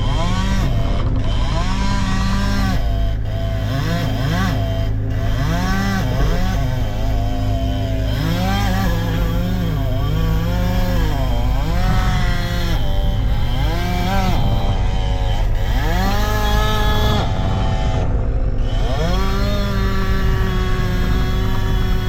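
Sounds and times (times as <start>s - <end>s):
chainsaw revving: 0.0s - 22.0s
low engine hum: 0.0s - 22.0s.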